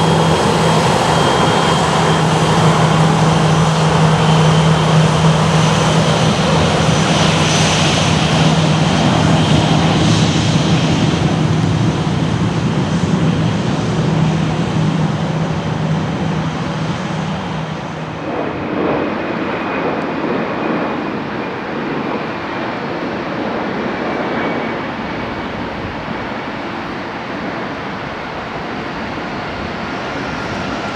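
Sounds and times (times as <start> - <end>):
duller airliner jet noise: 0.0 - 30.9
jet engines roaring: 0.0 - 30.9.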